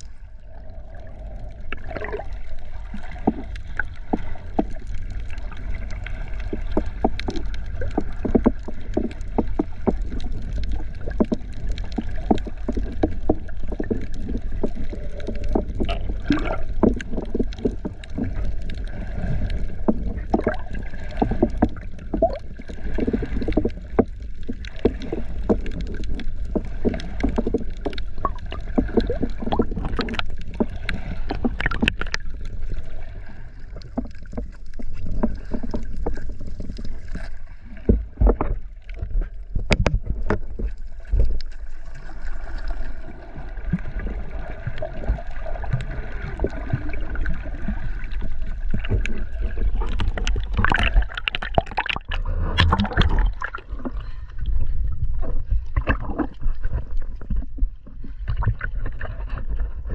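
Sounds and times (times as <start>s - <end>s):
water splashing and sloshing: 0.0s - 59.9s.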